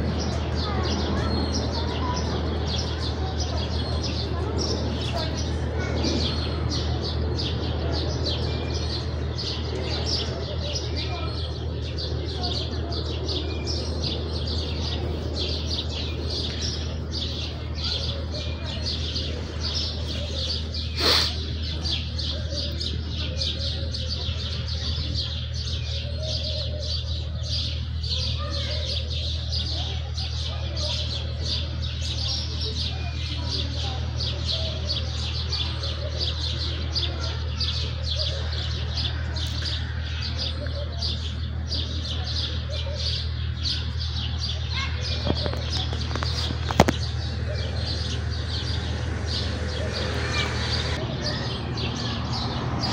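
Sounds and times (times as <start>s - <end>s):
sparrows chirping: 0.0s - 52.9s.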